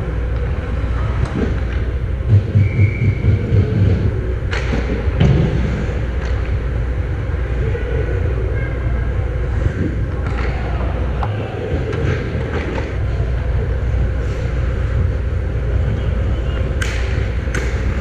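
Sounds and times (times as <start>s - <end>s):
faint skate and stick noises: 0.0s - 18.0s
steady low rumble: 0.0s - 18.0s.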